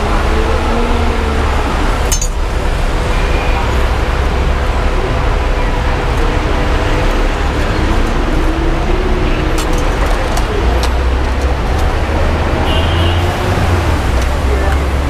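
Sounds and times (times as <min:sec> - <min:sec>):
traffic rumbling: 0:00.0 - 0:15.0.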